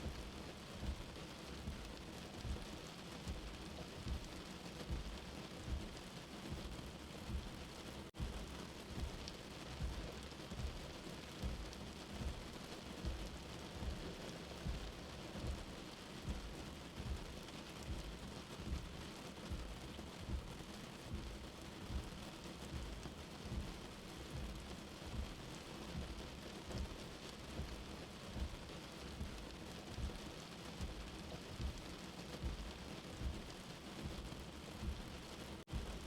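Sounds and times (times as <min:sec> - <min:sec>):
low heartbeat thump: 0:00.0 - 0:36.0.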